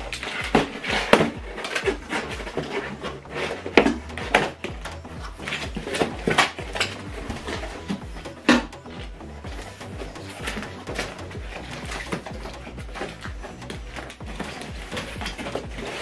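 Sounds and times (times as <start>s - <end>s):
cardboard flaps creasing: 0.0s - 16.0s.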